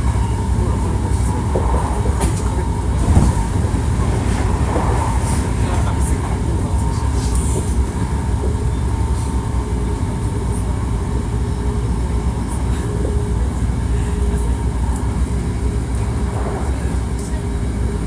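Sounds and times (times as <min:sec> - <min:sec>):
faint steady whine: 0:00.0 - 0:18.0
wheels rumbling on track: 0:00.0 - 0:18.0.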